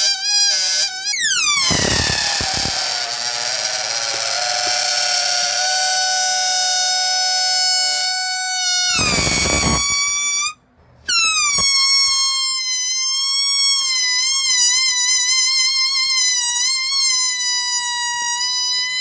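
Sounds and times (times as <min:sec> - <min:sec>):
air squealing out of balloon: 0:00.0 - 0:19.0.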